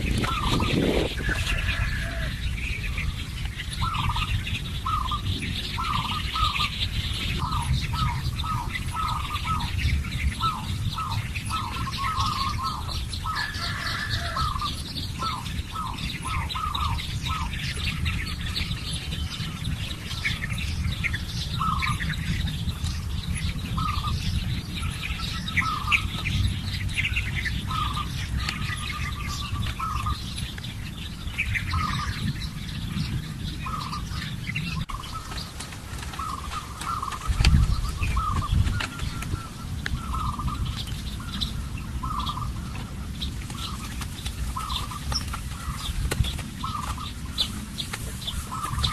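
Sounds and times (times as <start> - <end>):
birds calling and chirping: 0.0 - 48.9
steady low rumble: 0.0 - 48.9.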